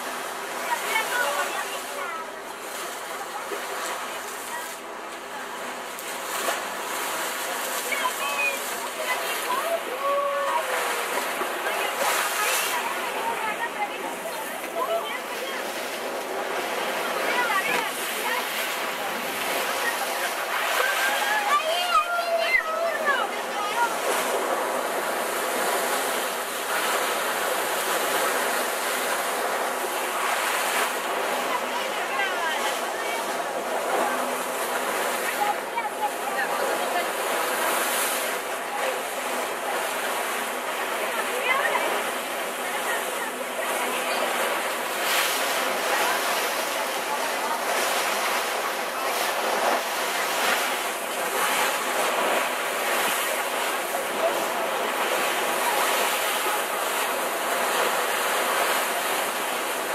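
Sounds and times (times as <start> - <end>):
sea water splashing along hull: 0.0 - 59.9.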